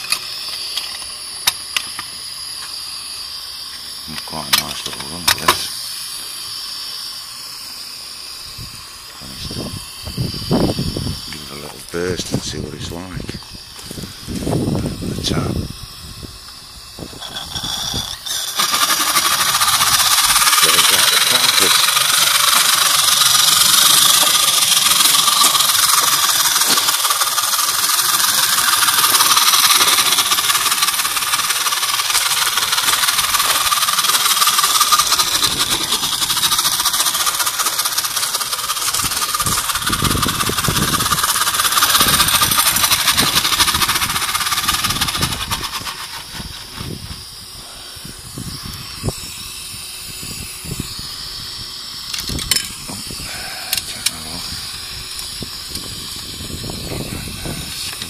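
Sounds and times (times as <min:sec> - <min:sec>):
loud steam hiss: 0:00.0 - 0:58.0
steam engine exhaust beats: 0:00.0 - 0:58.0.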